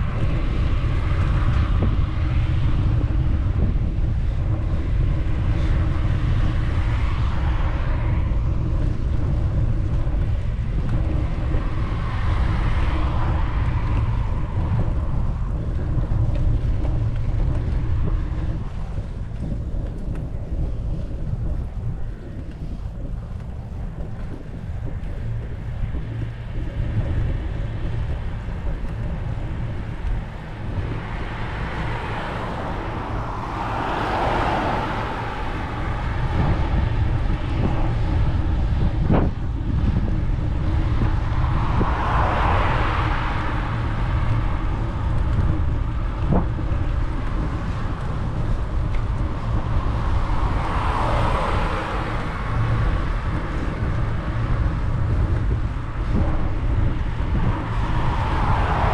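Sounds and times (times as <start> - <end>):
road vehicles passing: 0.0 - 58.9
wind buffeting microphone: 0.0 - 58.9.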